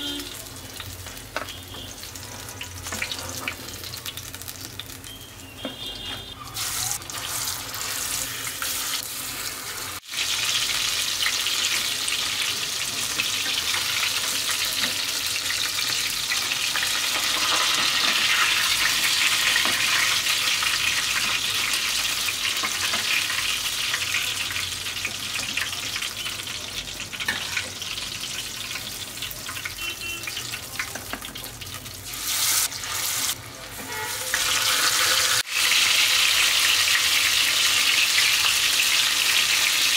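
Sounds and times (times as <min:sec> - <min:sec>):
fish frying in hot oil: 0:00.0 - 0:05.3, 0:06.0 - 0:39.9.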